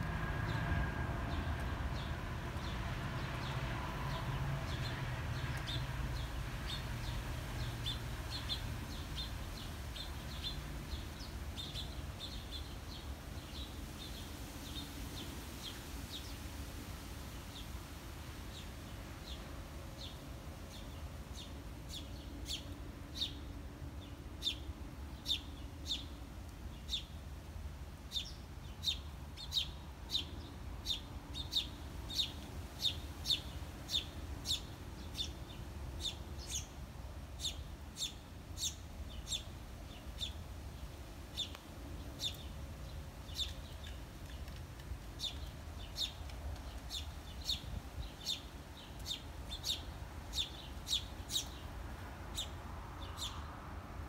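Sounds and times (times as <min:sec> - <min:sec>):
sparrows chirping: 0:01.2 - 0:16.4, 0:18.5 - 0:27.2, 0:28.1 - 0:53.6.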